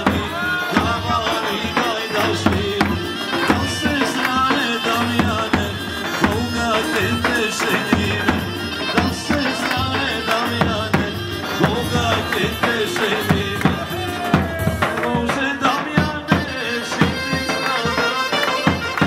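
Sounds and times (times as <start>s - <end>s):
saxophone melody: 0.0s - 15.0s, 15.6s - 19.0s
bass drum beat: 0.0s - 18.0s.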